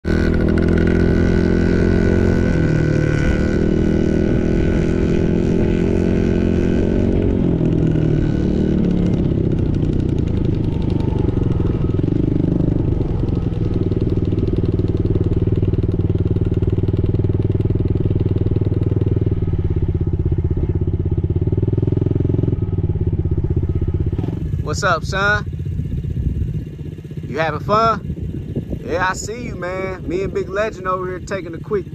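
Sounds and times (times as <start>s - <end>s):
small dirt bike engine: 0.1s - 31.9s.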